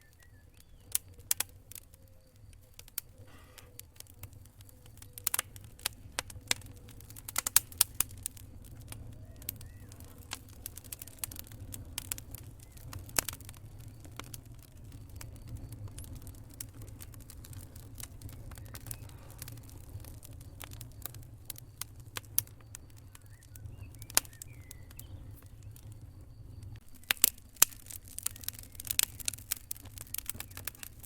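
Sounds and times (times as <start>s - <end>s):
campfire crackling and popping: 0.0s - 31.0s
low rumble of burning fire: 0.0s - 31.0s.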